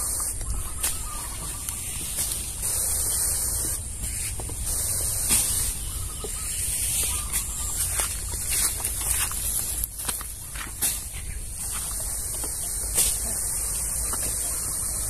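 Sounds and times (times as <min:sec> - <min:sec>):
sprayer wand hissing: 0:00.0 - 0:10.1, 0:11.0 - 0:15.0.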